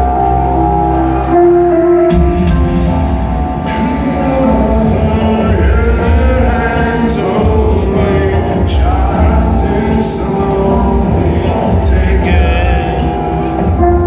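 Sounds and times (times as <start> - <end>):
rock band playing: 1.3 - 14.0
man singing: 2.1 - 14.0.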